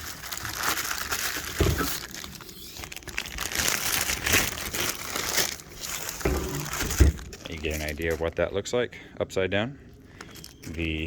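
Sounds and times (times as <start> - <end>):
packaging crinkling: 0.0 - 8.6, 10.0 - 11.0.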